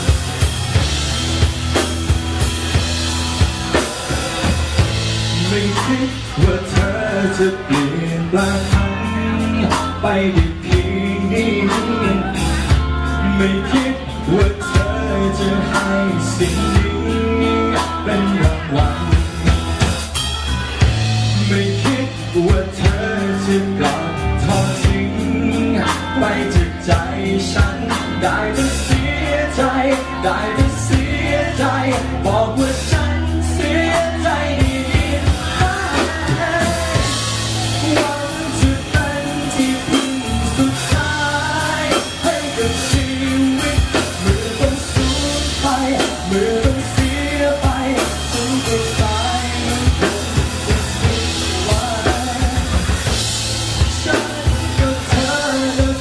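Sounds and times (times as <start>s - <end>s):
live band playing: 0.0s - 56.0s
men singing pop song: 4.1s - 19.8s, 21.2s - 56.0s.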